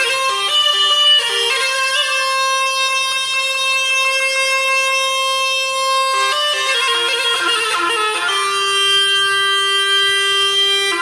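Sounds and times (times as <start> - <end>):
bagpipe melody: 0.0 - 11.0.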